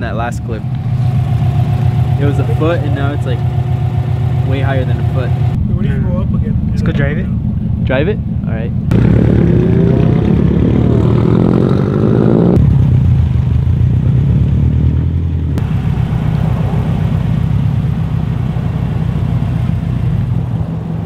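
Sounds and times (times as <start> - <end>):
cars rumbling past: 0.3 - 21.0.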